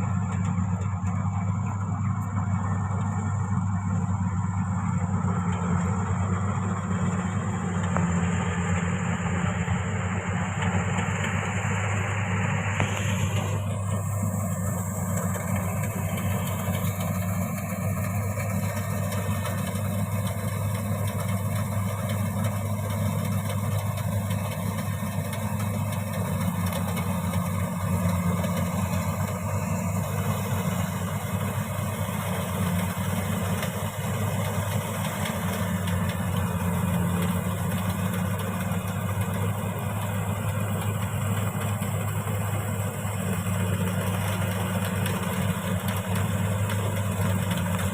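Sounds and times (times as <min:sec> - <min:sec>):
harvester engine droning: 0:00.0 - 0:47.9
machinery noise: 0:00.0 - 0:47.9.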